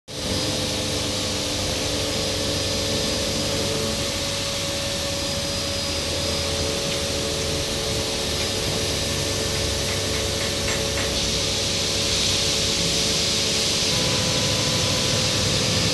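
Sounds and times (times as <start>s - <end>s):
machinery drone: 0.1s - 15.9s.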